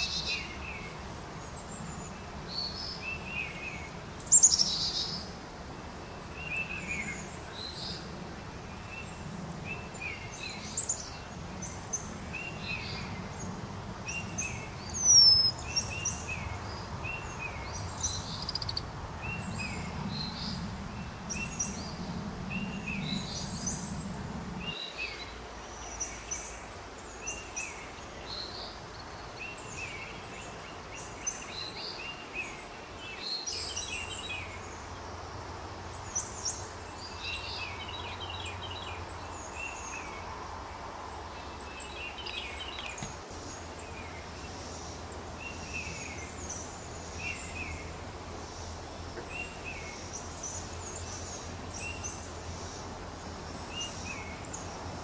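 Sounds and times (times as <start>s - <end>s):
outdoor hiss: 0.0s - 55.0s
songbirds chirping: 0.0s - 55.0s.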